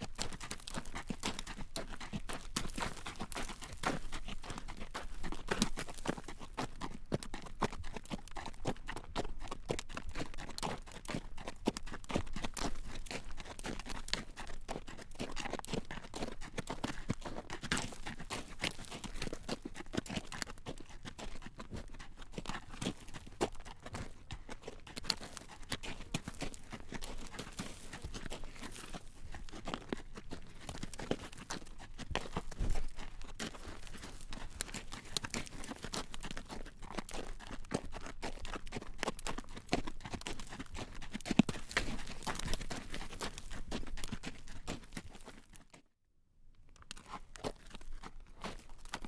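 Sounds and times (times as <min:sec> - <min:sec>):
horse hooves clacking on road: 0:00.0 - 0:45.7.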